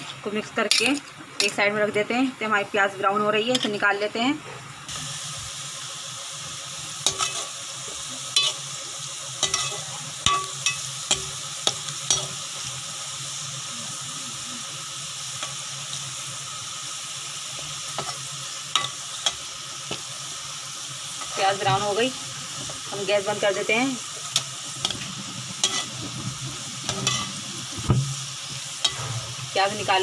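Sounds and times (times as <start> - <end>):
onions sizzling in oil: 0.0 - 30.0.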